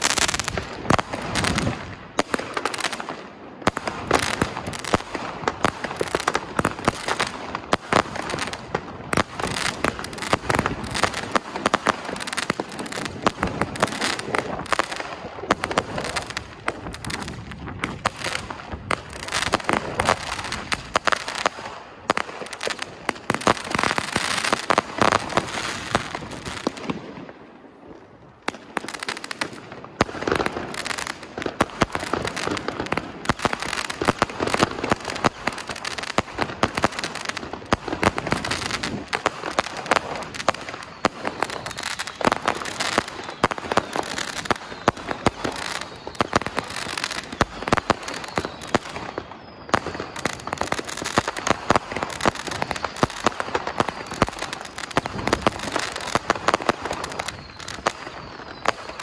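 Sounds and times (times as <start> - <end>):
firework bangs and crackling: 0.0 - 59.0.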